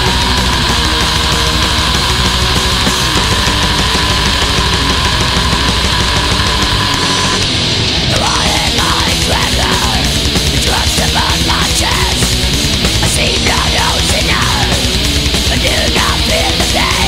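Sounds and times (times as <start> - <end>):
heavy metal music: 0.0 - 17.0.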